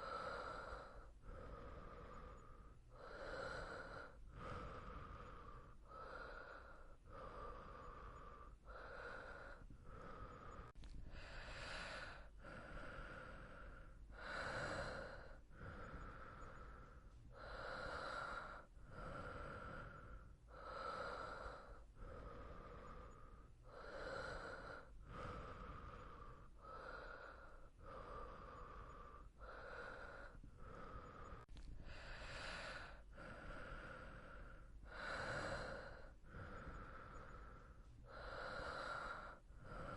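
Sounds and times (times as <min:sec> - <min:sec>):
sleeping person breathing: 0:00.0 - 0:39.9.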